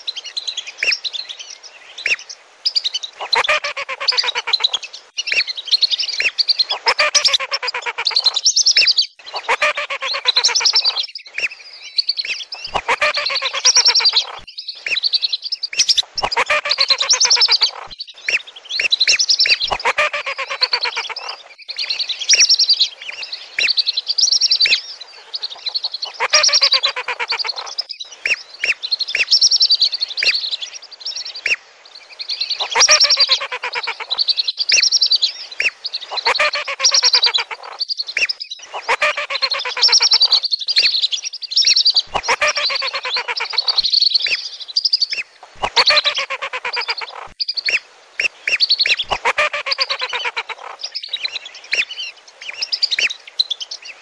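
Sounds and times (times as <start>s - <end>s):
whistling ducks calling: 2.0s - 29.6s, 32.6s - 44.4s, 45.0s - 53.5s.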